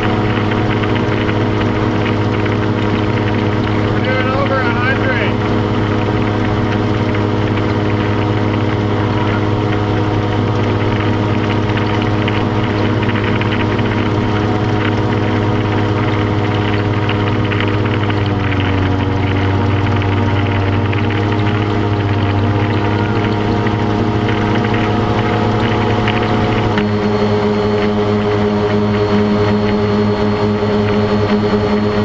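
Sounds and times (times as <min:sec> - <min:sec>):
atv engine running: 0:00.0 - 0:32.0.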